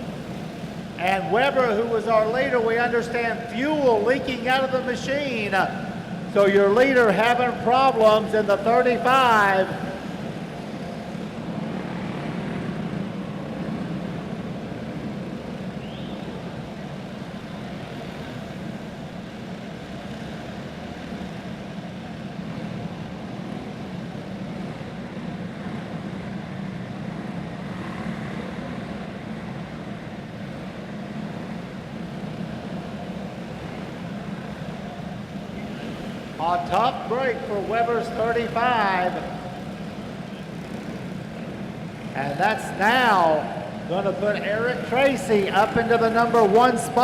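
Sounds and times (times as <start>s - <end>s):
kart engines droning: 0.0s - 47.0s.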